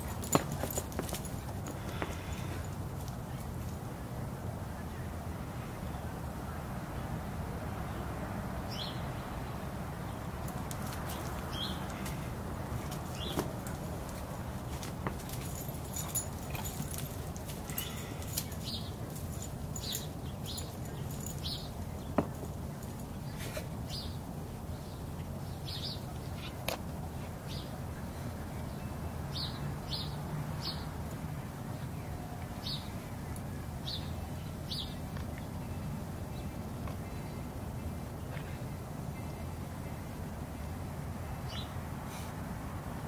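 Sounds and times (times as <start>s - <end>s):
low background noise: 0.0s - 43.0s.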